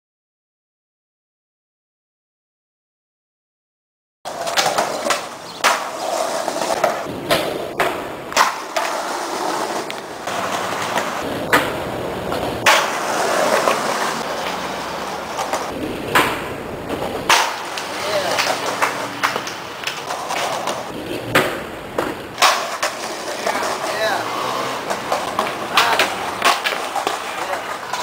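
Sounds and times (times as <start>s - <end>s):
skateboard tail clacks: 4.3s - 28.0s
skateboard wheels rolling on concrete: 4.3s - 28.0s.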